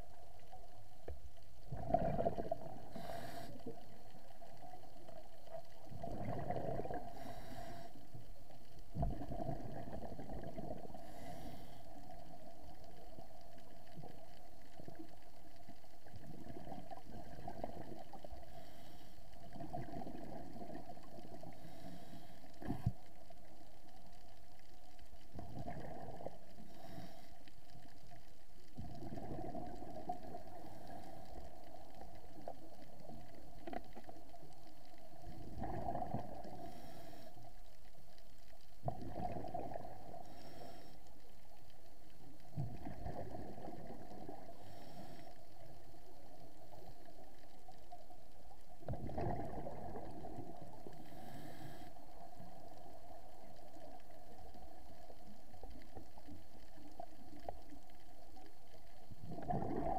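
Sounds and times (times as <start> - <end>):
exhaled bubbles gurgling: 1.4 - 18.6, 19.4 - 23.8, 25.2 - 27.1, 28.7 - 37.0, 38.7 - 40.5, 41.6 - 59.9.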